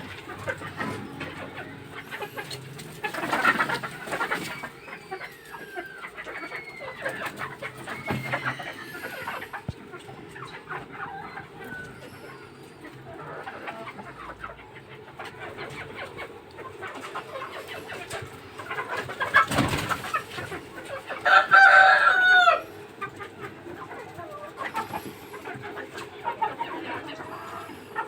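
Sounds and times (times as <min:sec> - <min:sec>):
chickens clucking and calling: 0:00.0 - 0:28.0.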